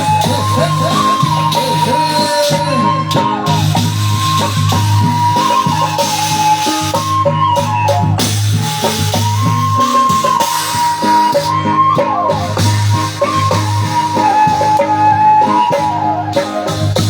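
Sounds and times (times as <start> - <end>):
rattling percussion: 0.0 - 17.0
sliding high melody: 0.0 - 17.0.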